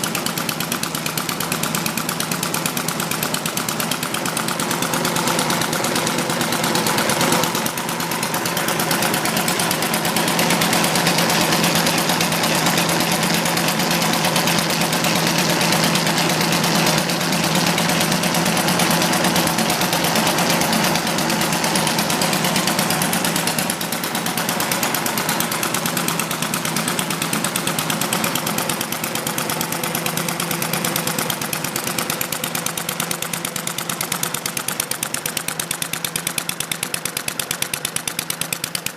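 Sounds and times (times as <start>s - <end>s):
model engine running rapidly: 0.0s - 38.9s.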